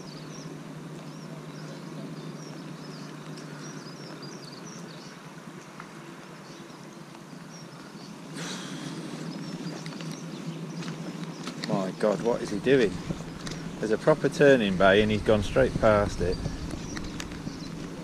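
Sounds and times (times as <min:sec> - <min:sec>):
diesel engine humming: 0:00.0 - 0:05.5, 0:07.4 - 0:18.0
rustle: 0:00.0 - 0:18.0
small birds chirping: 0:00.0 - 0:18.0.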